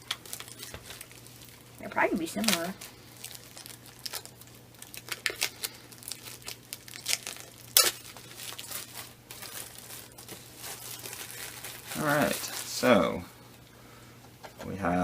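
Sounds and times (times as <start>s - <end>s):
plastic shrink-wrap crinkling and tearing: 0.0s - 13.2s.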